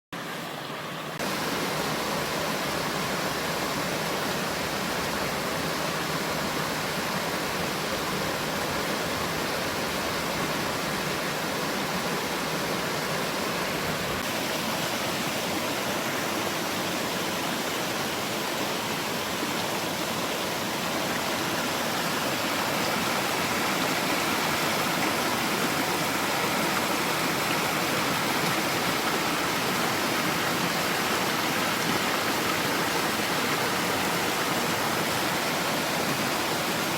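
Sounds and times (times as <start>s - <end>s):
stream flowing: 0.1s - 36.9s.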